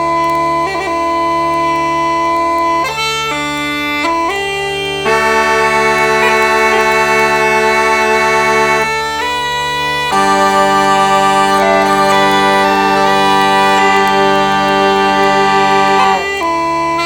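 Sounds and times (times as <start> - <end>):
bagpipe drones: 0.0 - 17.0
uilleann pipes chanter melody: 0.0 - 17.0.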